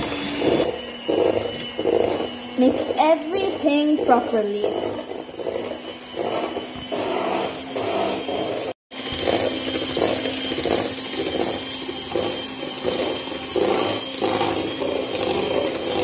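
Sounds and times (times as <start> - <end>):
electric hand mixer running: 0.0 - 16.0.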